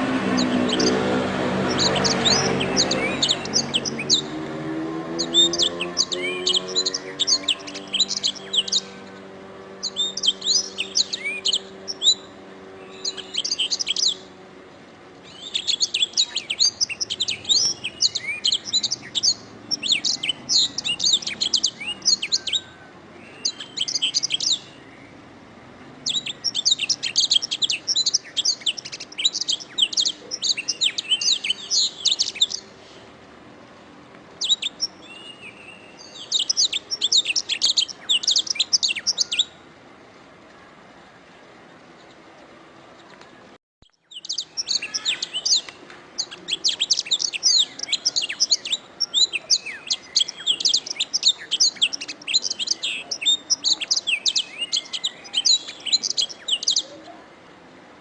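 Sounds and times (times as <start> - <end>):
canary singing trills: 0.0 - 14.5, 15.2 - 25.3, 26.0 - 32.9, 34.4 - 39.7, 43.9 - 57.2.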